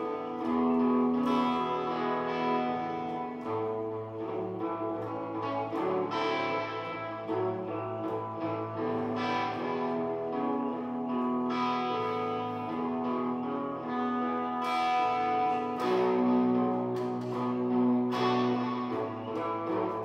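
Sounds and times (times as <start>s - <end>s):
guitar playing slow blues: 0.0s - 20.0s.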